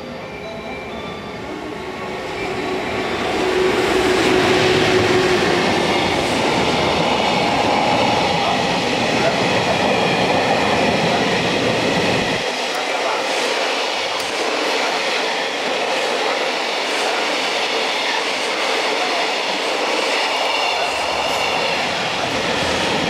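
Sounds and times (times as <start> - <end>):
electric locomotive humming: 0.0 - 23.0.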